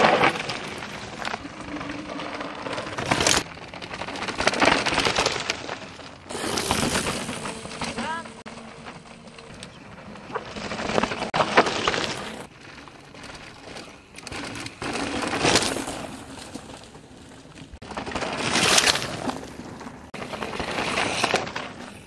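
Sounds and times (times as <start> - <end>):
bike tyres skidding on gravel: 0.0 - 22.0.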